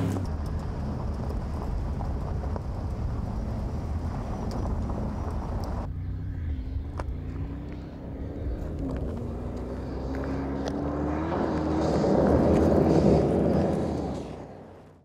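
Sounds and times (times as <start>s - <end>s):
tyres crunching on gravel: 0.0s - 5.9s, 7.0s - 14.9s
suv engine driving past: 0.0s - 15.0s.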